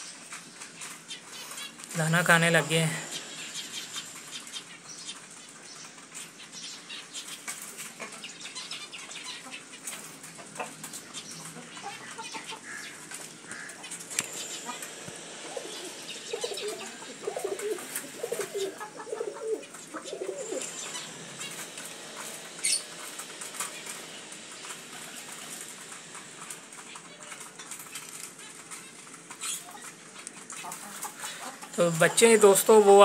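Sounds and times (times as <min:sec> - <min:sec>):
beaks pecking grain on wood: 0:00.0 - 0:33.0
pigeons cooing: 0:00.0 - 0:33.0.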